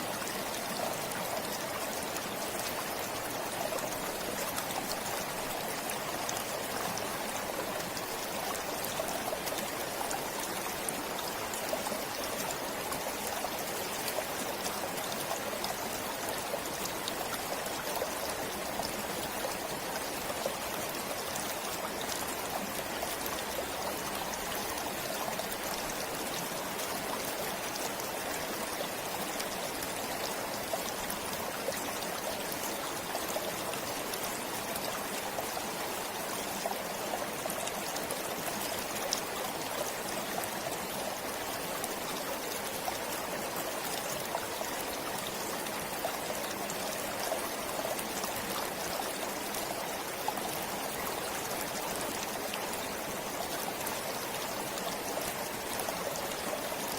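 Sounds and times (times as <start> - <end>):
stream flowing over stones: 0.0 - 56.9.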